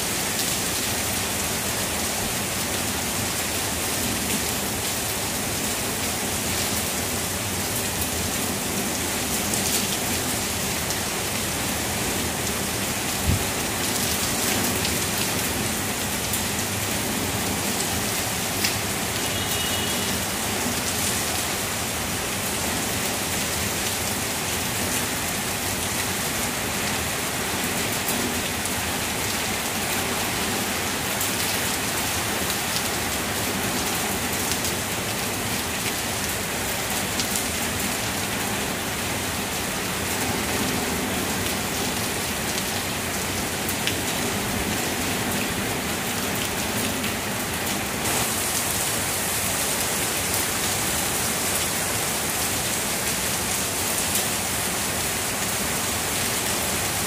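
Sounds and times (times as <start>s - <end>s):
heavy rain through trees: 0.0s - 57.0s.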